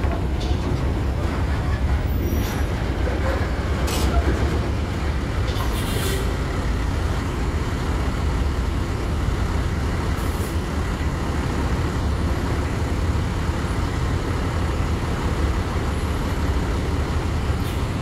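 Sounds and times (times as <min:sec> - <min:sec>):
bus diesel engine rumbling: 0:00.0 - 0:18.0.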